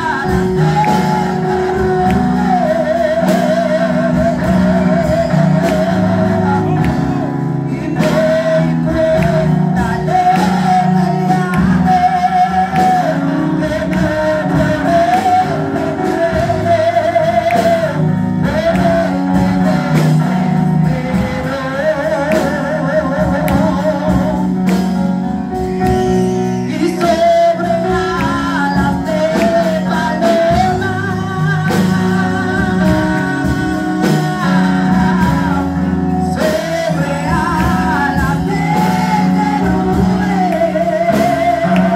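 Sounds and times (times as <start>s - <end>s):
electronic keyboard chords: 0.0s - 41.9s.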